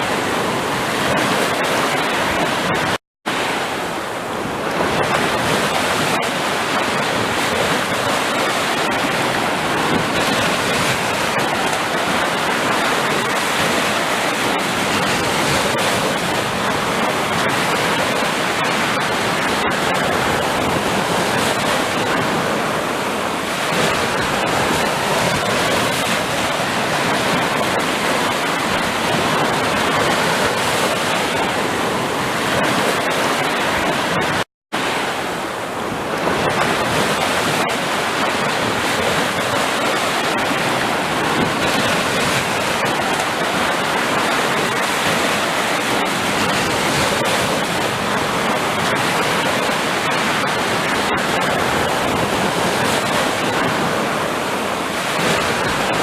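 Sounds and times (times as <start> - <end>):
sea waves rushing: 0.0 - 56.0.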